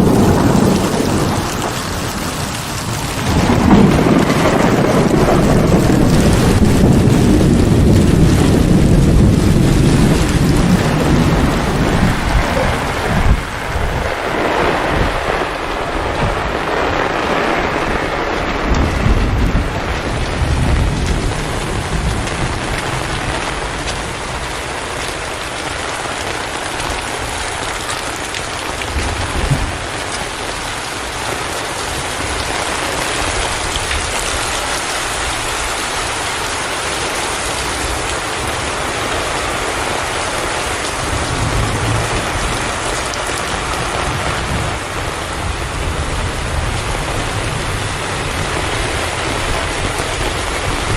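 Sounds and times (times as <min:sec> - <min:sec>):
heavy rain falling: 0:00.0 - 0:50.9
thunder rumbling: 0:00.0 - 0:50.9.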